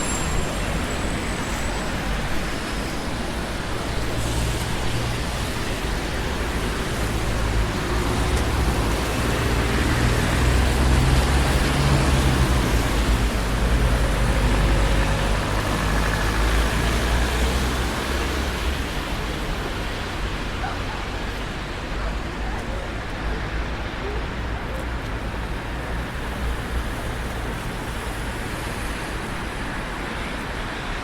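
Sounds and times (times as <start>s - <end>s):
cars passing: 0.0s - 31.0s
city traffic road noise: 0.0s - 31.0s.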